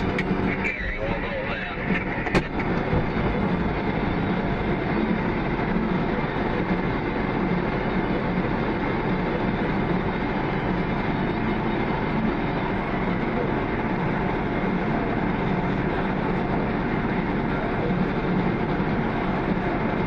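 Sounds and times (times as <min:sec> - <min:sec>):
heavy farm machinery engine drone: 0:00.0 - 0:20.0.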